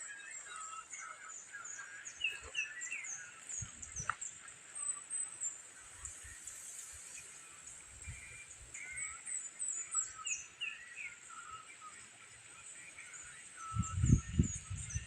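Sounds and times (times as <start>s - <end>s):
faint hiss: 0.0s - 14.4s
birds chirping: 0.0s - 15.0s.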